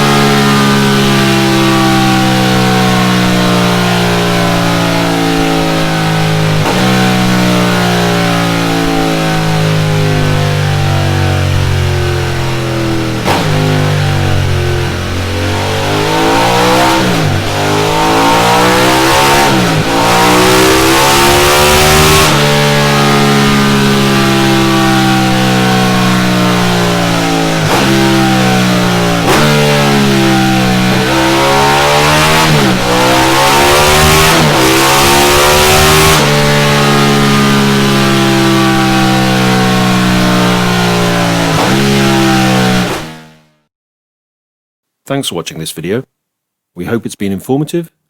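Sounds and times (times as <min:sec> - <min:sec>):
motorcycle engine revving: 0:00.0 - 0:43.6.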